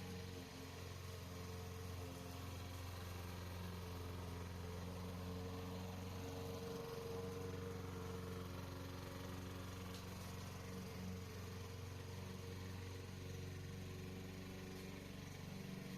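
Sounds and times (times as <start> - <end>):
lawn mower engine running: 0.0 - 15.9.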